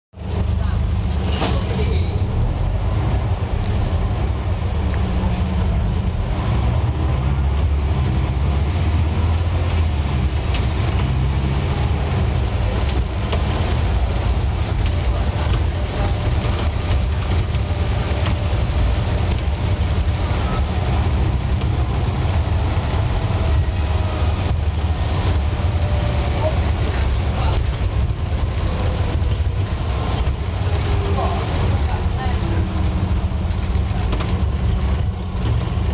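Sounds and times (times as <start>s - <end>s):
bus body rattles: 0.2s - 35.9s
bus diesel engine droning: 0.2s - 35.9s.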